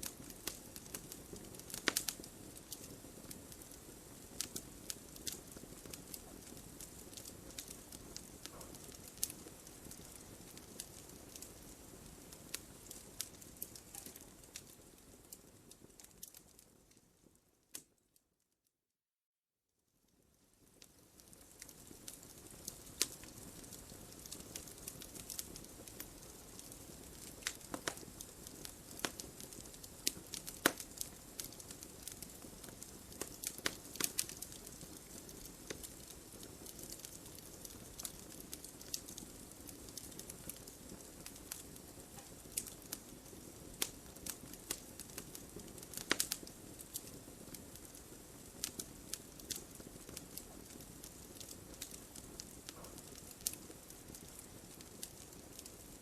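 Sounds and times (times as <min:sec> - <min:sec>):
wood fire crackling and popping: 0:00.0 - 0:18.0, 0:20.1 - 0:56.0.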